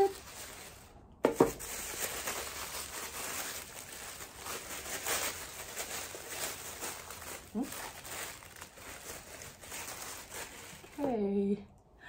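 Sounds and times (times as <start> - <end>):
packaging rustling and crinkling: 0.0 - 11.3.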